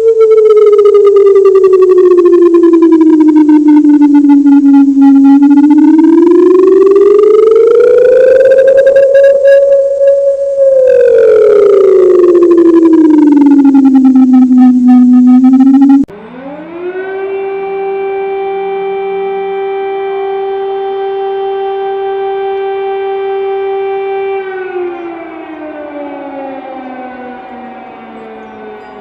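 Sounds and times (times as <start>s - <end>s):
siren winding down: 0.0s - 29.0s
siren winding up and wailing: 0.0s - 29.0s.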